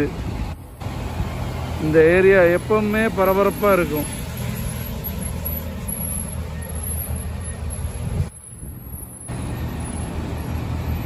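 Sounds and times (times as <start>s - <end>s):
street traffic noise: 0.0s - 11.0s
truck engine rumbling past: 0.0s - 11.0s.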